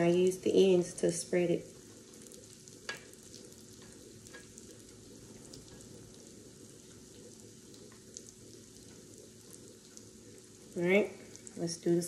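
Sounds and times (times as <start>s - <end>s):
batter sizzling on griddle: 0.0s - 12.0s.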